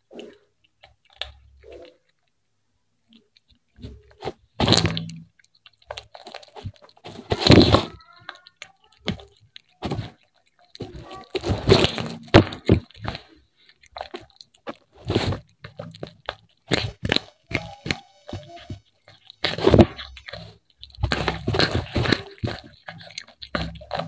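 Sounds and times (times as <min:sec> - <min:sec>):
cat chewing with wet crunches: 0:00.0 - 0:24.0.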